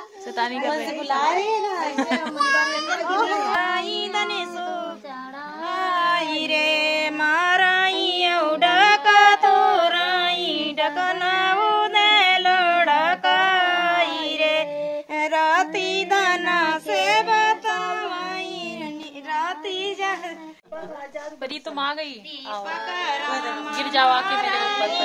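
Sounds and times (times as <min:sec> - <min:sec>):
woman singing unaccompanied: 0:00.0 - 0:25.0.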